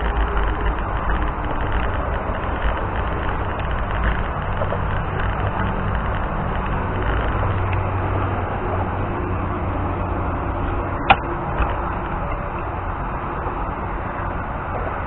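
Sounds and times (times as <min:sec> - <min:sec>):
scooter engine drone: 0:00.0 - 0:15.0
wind rushing over helmet microphone: 0:00.0 - 0:15.0.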